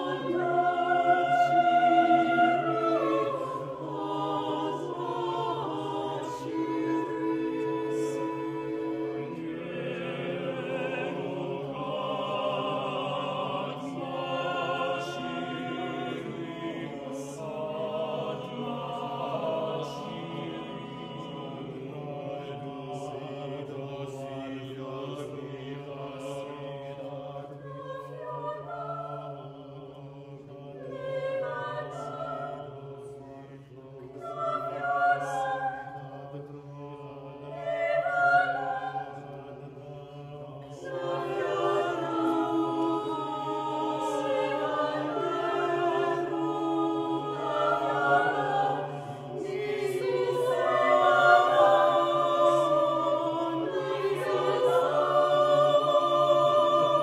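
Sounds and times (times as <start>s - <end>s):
vocal ensemble singing a cappella: 0.0s - 57.0s.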